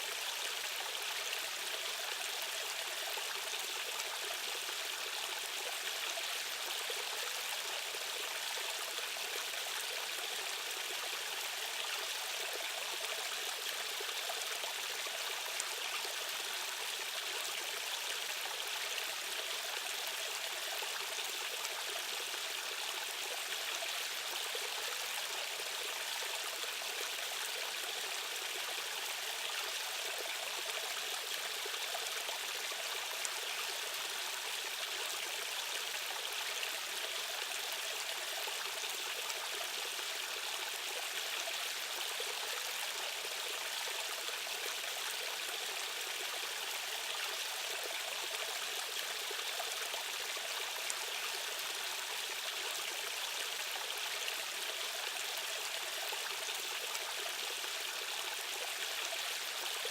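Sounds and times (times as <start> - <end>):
rushing stream water: 0.0 - 59.9.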